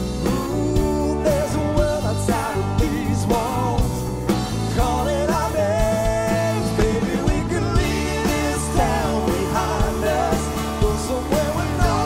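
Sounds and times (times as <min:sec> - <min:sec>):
electric guitar: 0:00.0 - 0:12.0
male lead vocal: 0:00.0 - 0:12.0
steady drum beat: 0:00.0 - 0:12.0
strummed acoustic guitar: 0:00.0 - 0:12.0.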